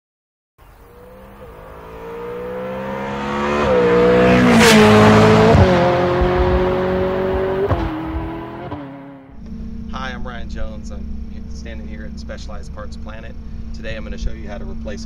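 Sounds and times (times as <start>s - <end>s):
car engine revving: 0.8s - 13.7s.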